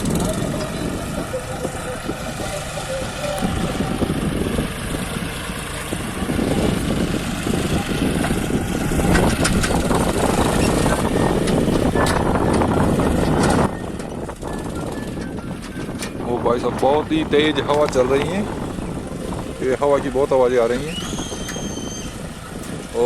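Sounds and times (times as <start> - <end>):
tractor diesel engine under load: 0.0 - 23.0
wind buffeting microphone: 0.0 - 23.0.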